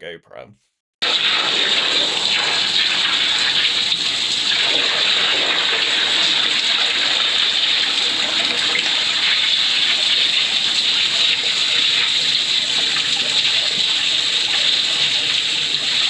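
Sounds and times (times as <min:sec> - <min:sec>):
water jet spraying: 0:01.0 - 0:16.0.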